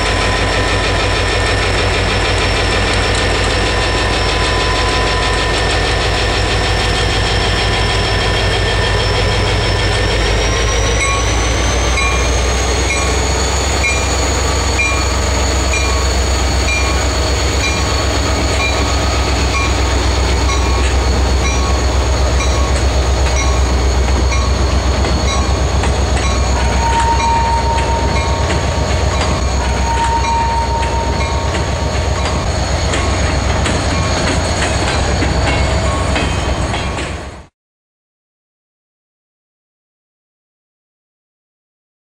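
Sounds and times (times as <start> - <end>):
high squeals: 0.0 - 37.4
train wheels rumbling on rail: 0.0 - 37.5.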